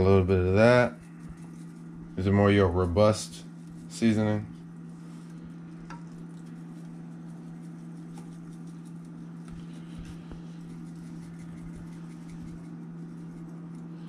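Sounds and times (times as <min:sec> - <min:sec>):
spice grains pattering on fish: 0:00.0 - 0:14.0
steady low hum: 0:00.0 - 0:14.0.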